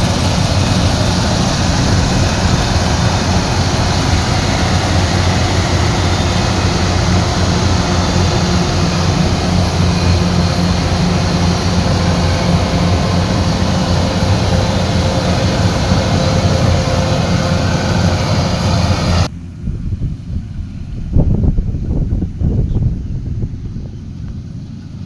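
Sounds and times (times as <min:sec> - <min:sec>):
diesel engine running at high revs: 0:00.0 - 0:25.0
low rumble: 0:00.0 - 0:25.0.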